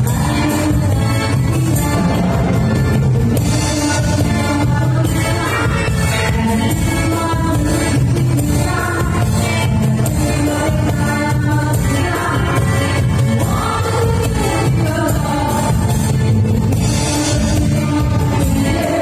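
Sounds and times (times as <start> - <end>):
disco dance music: 0.0 - 19.0
person singing: 0.0 - 19.0.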